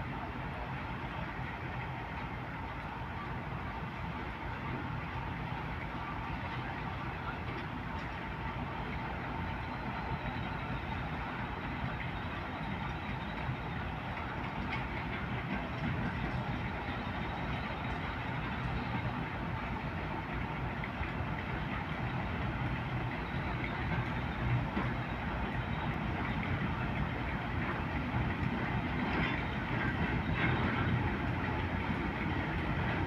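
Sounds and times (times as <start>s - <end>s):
faint steady whine: 0.0s - 33.0s.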